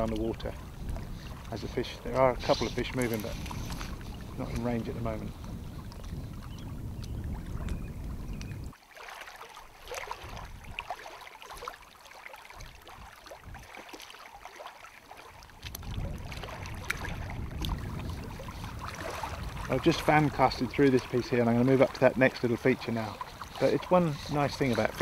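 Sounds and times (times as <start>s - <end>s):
small waves lapping on rocks: 0.0s - 7.7s, 8.7s - 25.0s
wind rumble on microphone: 0.0s - 8.8s, 10.1s - 10.9s, 12.6s - 13.7s, 15.4s - 25.0s.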